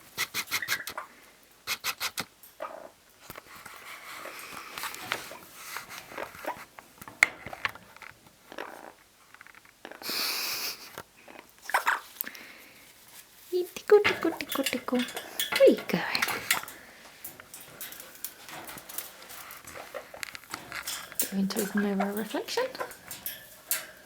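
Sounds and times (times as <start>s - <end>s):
parrot beak and feet scraping cage: 0.0s - 10.1s, 10.8s - 24.0s.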